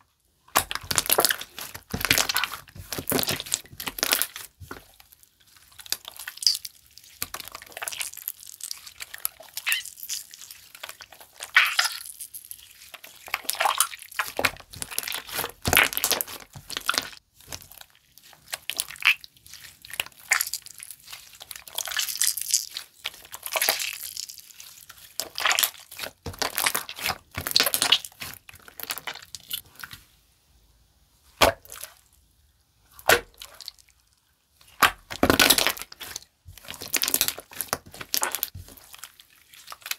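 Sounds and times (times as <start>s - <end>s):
slime squishing by hand: 0.4s - 30.1s, 31.3s - 32.1s, 32.9s - 33.9s, 34.6s - 39.9s.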